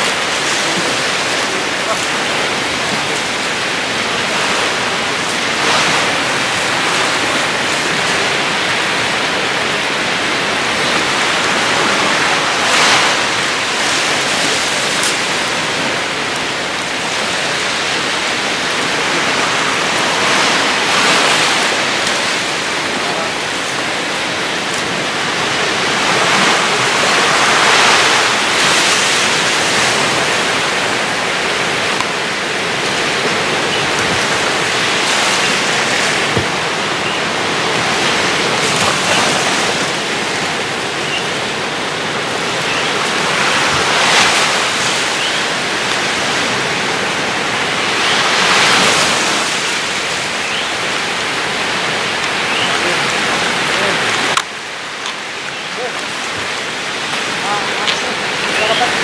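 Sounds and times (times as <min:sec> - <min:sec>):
underwater rushing water: 0:00.0 - 0:59.0.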